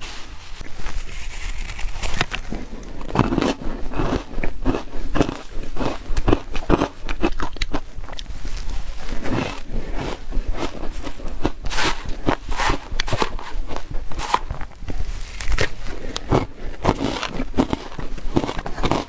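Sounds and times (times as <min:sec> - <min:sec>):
chewing crunchy shaved ice: 0:01.3 - 0:08.4, 0:09.0 - 0:14.6, 0:15.3 - 0:19.0.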